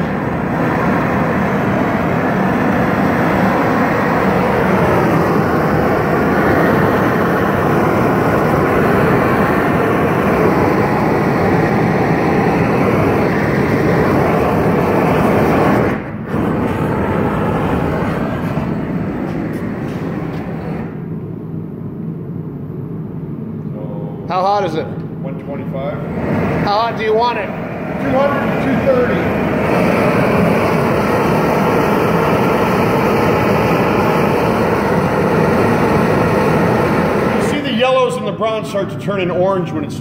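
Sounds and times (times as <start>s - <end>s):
gas torch flame hissing: 0.0s - 21.1s, 25.8s - 38.8s.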